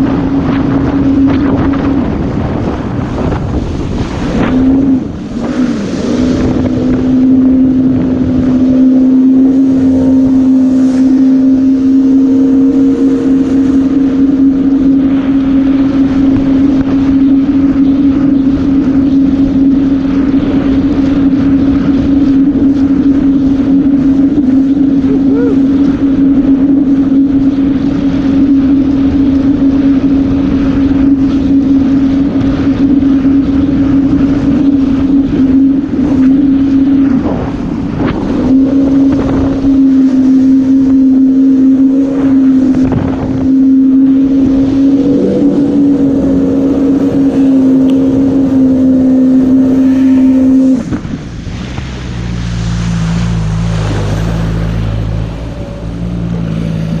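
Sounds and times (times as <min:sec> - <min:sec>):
watercraft engine running hard: 0:00.0 - 0:57.0.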